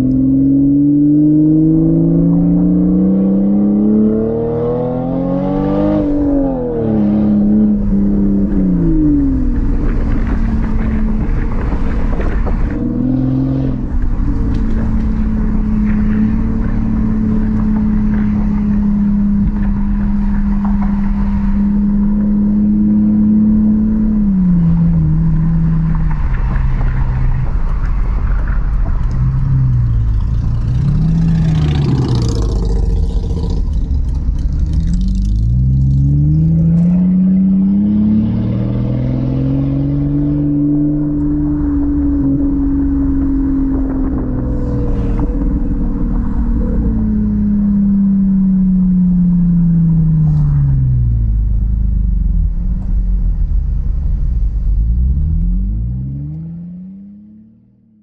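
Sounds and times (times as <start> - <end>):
car engine driving: 0.0 - 58.0
tyre and road noise: 0.0 - 58.0.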